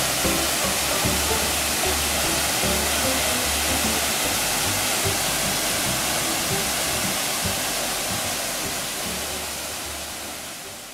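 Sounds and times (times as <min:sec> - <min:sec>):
waterfall rushing into a pool: 0:00.0 - 0:10.9.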